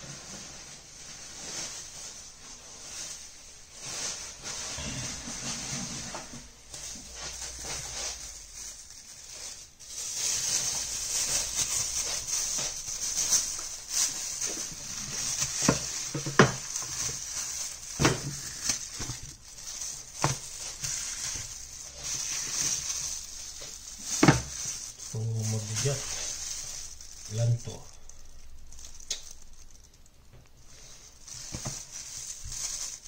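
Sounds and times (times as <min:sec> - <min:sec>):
plastic wrapping crinkling: 0:00.0 - 0:33.0.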